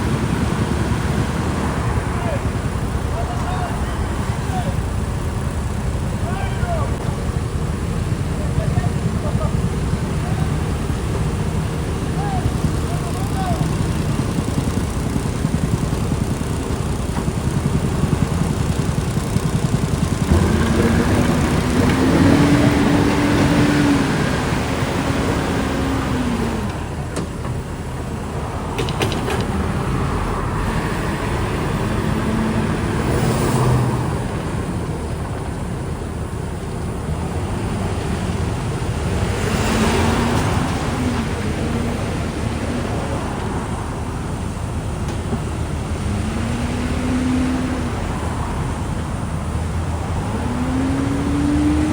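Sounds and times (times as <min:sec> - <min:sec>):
diesel engine revving: 0:00.0 - 0:51.9
machine and road noise: 0:00.0 - 0:51.9.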